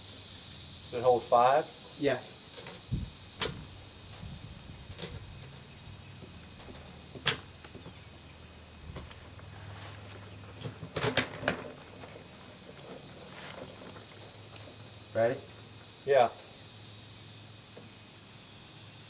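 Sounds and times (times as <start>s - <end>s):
high whine: 0.0s - 19.0s.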